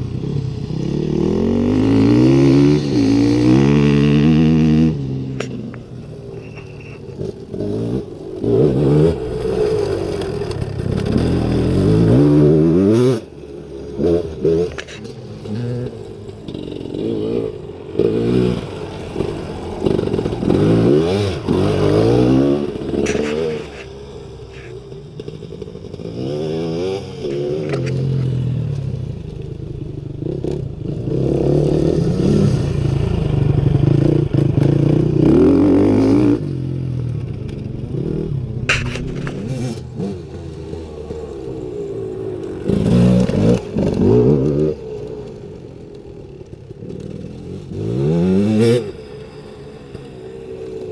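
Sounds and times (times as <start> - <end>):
dirt bike engine revving: 0.6 - 28.8, 30.1 - 45.4, 46.0 - 50.9.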